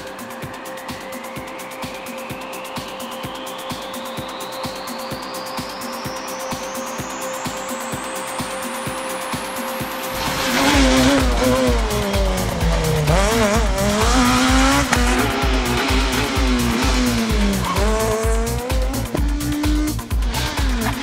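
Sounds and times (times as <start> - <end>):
electronic music with steady beat: 0.0 - 21.0
rally car engine at full throttle: 0.0 - 21.0.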